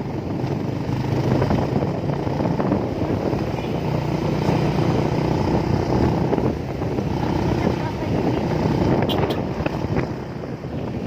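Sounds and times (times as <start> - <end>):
road noise: 0.0 - 11.0
vehicle engine: 0.0 - 11.0.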